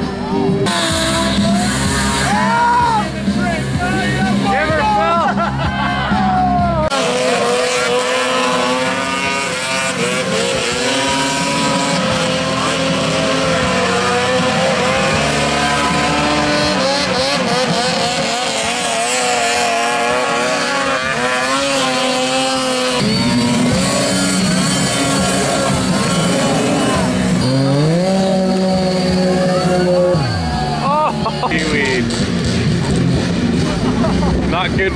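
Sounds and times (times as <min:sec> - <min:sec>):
vehicle engines revving: 0:00.0 - 0:34.9.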